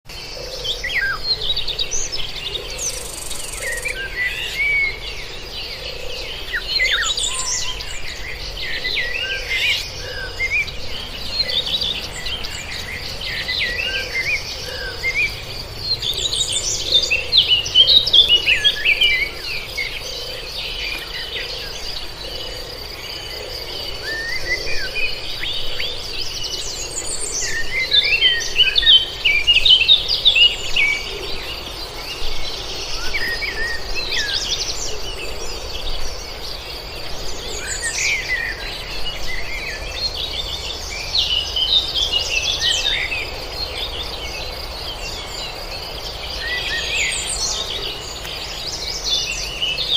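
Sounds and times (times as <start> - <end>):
birds chirping and singing: 0.1 - 49.9.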